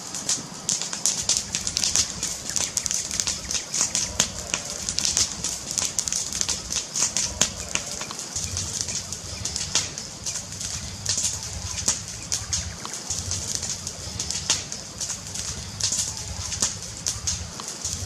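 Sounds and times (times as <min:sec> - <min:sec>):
wood fire crackling: 0:00.0 - 0:18.0
low rumble: 0:01.1 - 0:18.0.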